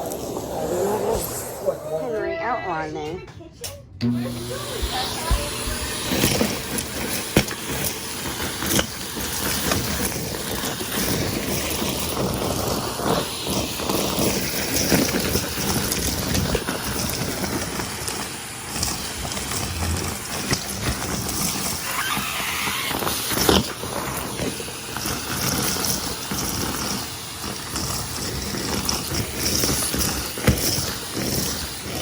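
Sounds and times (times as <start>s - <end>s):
vacuum cleaner motor running: 4.0s - 32.0s
grit rattling up vacuum hose: 4.1s - 32.0s.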